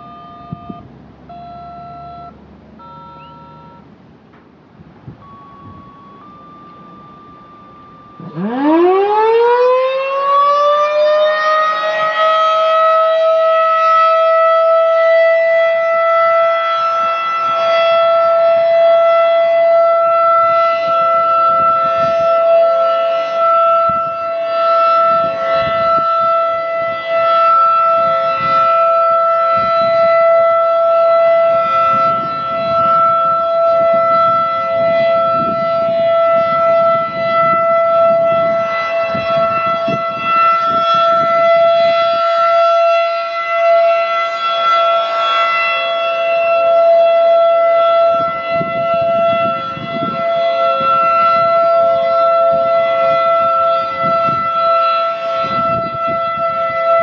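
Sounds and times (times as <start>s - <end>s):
fainter siren tone: 0.0s - 4.0s, 5.1s - 57.0s
rotating siren steady tone: 0.0s - 4.0s, 4.8s - 57.0s.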